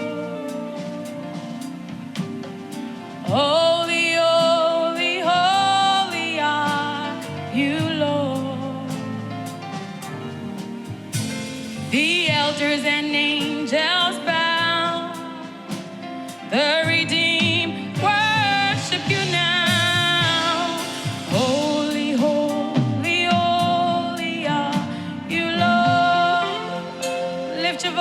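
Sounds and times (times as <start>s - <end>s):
person singing with vibrato: 0.0s - 2.2s, 3.2s - 9.9s, 11.8s - 28.0s
keyboard and band accompaniment: 0.0s - 28.0s.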